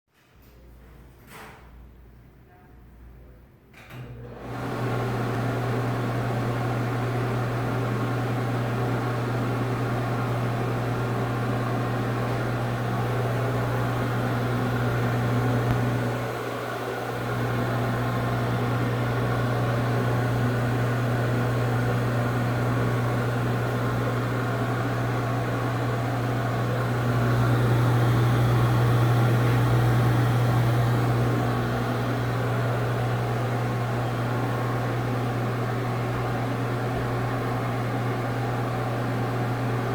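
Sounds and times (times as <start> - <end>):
exhaust fan motor hum: 4.2 - 39.9.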